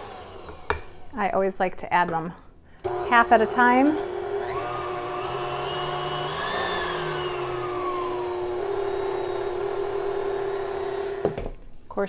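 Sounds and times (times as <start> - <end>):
electric mixer running: 0.0 - 1.2, 2.8 - 11.5.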